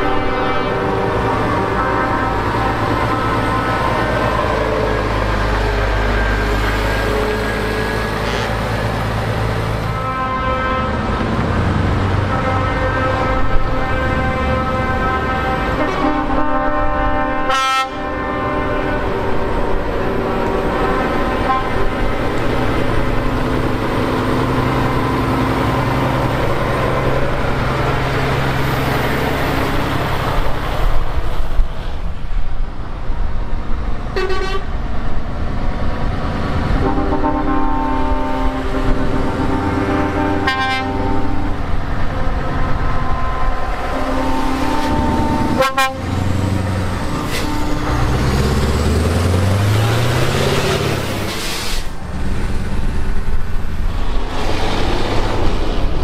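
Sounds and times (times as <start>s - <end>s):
truck air horns: 0.0s - 30.5s, 34.1s - 34.7s, 36.7s - 52.0s
diesel engine noise: 0.0s - 56.0s.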